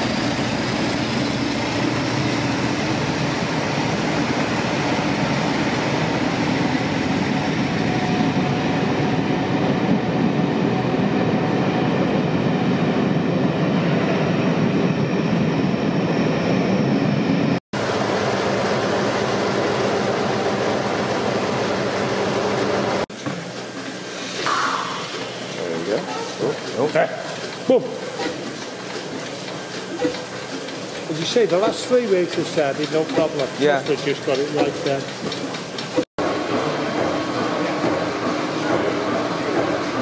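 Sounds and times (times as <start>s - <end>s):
stationary engines humming: 0.0s - 40.0s
train running on rails: 0.0s - 40.0s.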